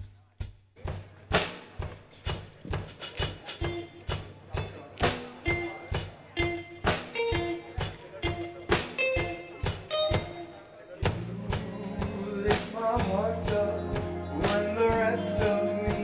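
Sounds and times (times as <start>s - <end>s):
drum kit beat: 0.0s - 16.0s
live band playing: 0.8s - 16.0s.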